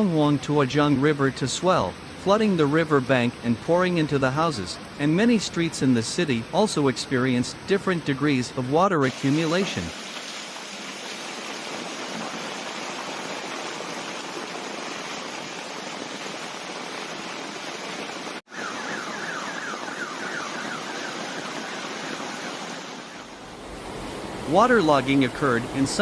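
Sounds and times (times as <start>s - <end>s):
flowing floodwater: 0.0s - 26.0s
heavy rain: 0.0s - 26.0s.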